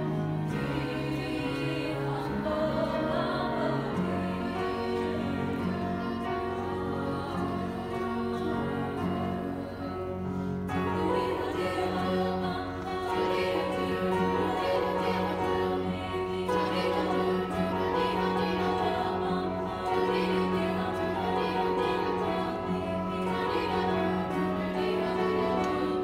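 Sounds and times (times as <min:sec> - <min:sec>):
women's choir singing in harmony: 0:00.0 - 0:26.0.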